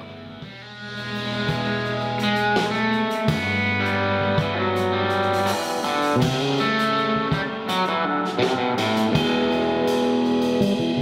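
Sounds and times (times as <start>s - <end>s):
electric guitar blues lead: 0.0s - 11.0s.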